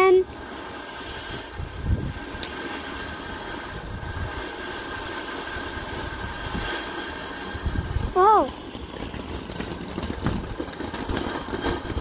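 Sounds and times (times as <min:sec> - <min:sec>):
firework fountain hissing: 0:00.0 - 0:12.0
sharp crackle: 0:00.0 - 0:12.0.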